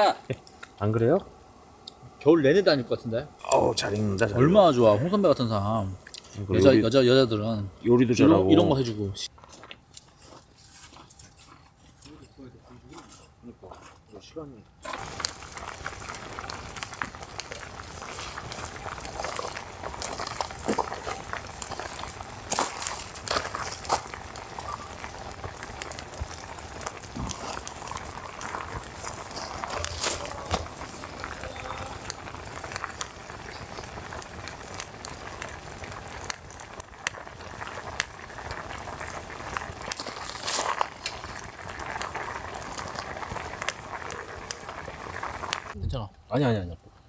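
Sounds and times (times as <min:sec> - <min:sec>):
campfire crackles and pops: 0:00.0 - 0:46.0
food boiling and sizzling: 0:00.0 - 0:47.0.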